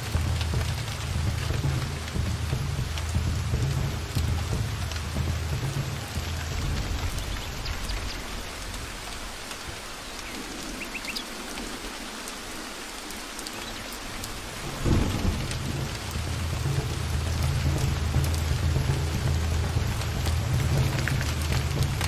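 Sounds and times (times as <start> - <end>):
rolling thunder: 0.0 - 11.8, 14.2 - 22.0
steady rain: 0.0 - 22.0.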